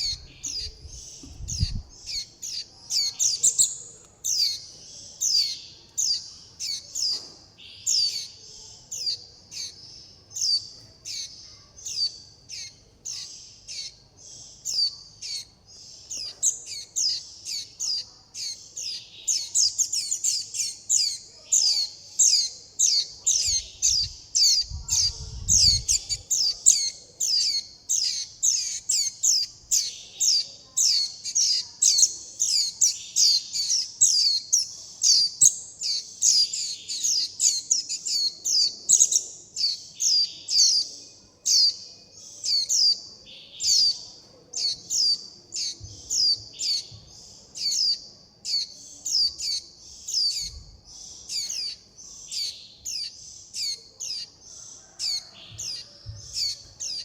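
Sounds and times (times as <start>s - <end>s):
young birds chirping: 0.0s - 57.0s.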